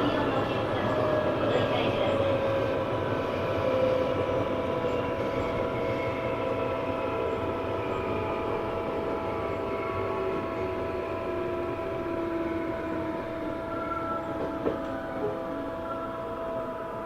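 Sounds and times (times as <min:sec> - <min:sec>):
rail and running noise: 0:00.0 - 0:17.0.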